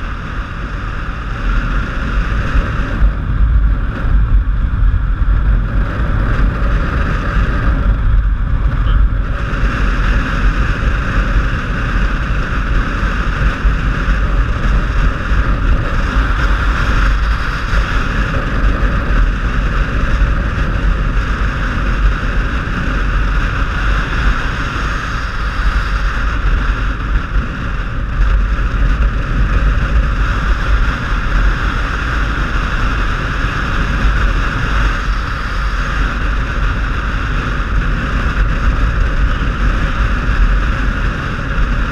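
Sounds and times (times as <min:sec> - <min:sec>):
motorcycle engine rumble: 0:00.0 - 0:41.9
wind rush: 0:00.0 - 0:41.9.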